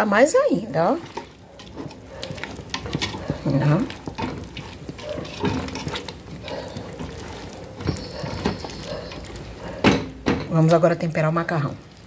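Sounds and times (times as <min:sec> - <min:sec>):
cooking hiss: 0:00.4 - 0:12.0
spoon scraping metal pot: 0:00.7 - 0:10.6.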